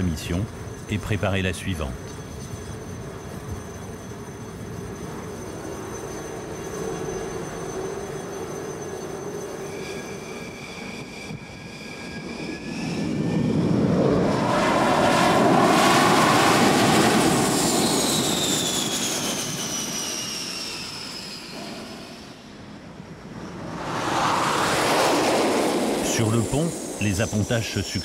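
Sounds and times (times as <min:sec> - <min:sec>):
jet engine whine passing: 0:00.0 - 0:28.0.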